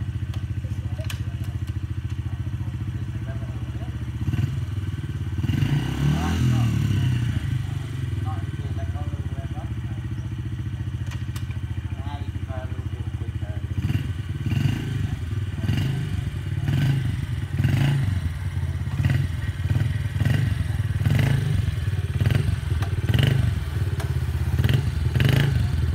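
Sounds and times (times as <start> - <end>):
dirt bike engine revving: 0.8 - 25.9.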